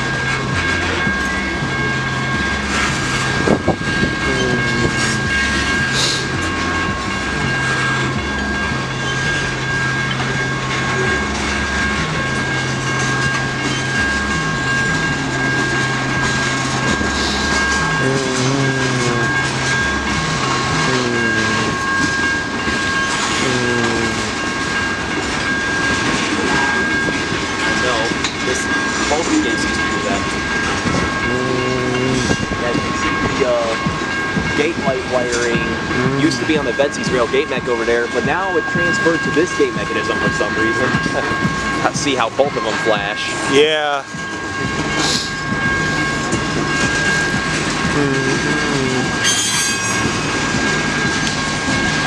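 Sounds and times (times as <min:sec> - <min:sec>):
freight train wheels clacking: 0:00.0 - 0:52.0.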